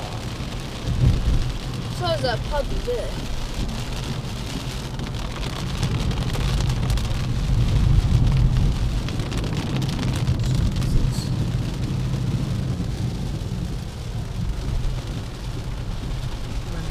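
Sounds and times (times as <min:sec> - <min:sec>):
car driving rumble: 0:00.0 - 0:16.9
heavy rain on car roof: 0:00.0 - 0:16.9.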